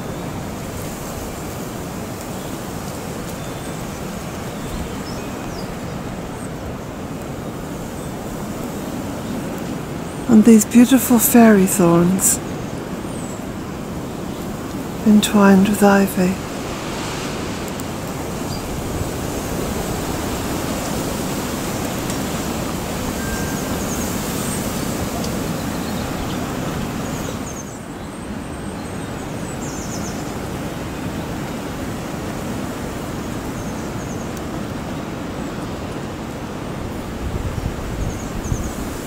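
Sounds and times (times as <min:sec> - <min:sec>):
strong wind blowing through trees: 0:00.0 - 0:39.0.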